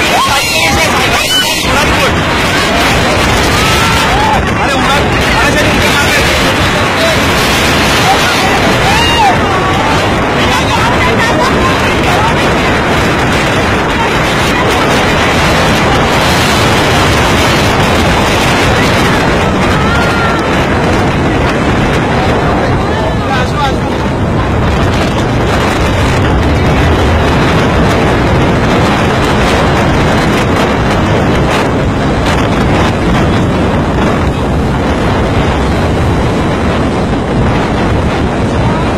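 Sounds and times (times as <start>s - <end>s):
rough sea: 0.0s - 38.9s
wind buffeting microphone: 0.0s - 38.9s
wind rushing: 0.0s - 38.9s.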